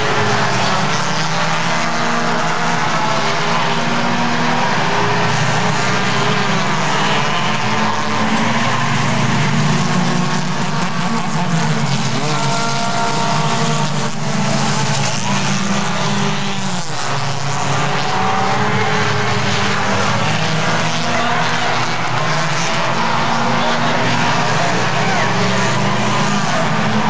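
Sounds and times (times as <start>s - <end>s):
stock car engines racing: 0.0s - 27.0s.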